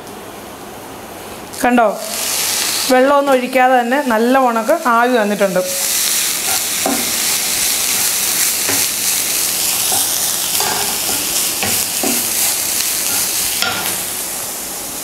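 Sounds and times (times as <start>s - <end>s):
food sizzling in a pan: 1.6s - 15.0s.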